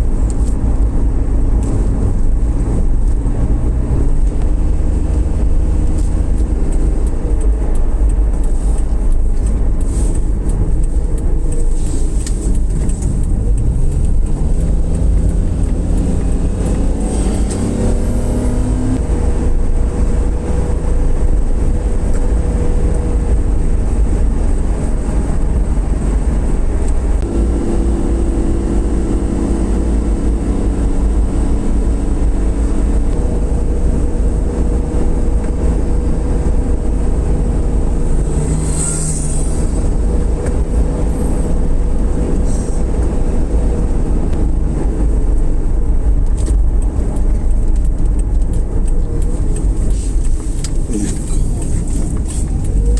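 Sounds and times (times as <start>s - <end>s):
vehicle engine accelerating: 0.0s - 52.9s.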